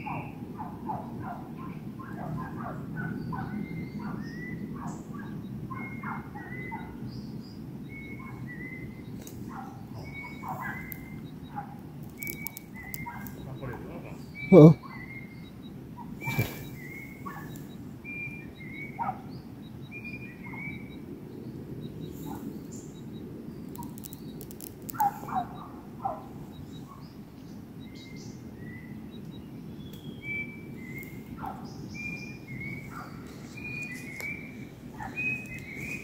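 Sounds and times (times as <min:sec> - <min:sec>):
lower louder bird calls: 0:00.0 - 0:36.0
steady low background hum: 0:00.0 - 0:36.0.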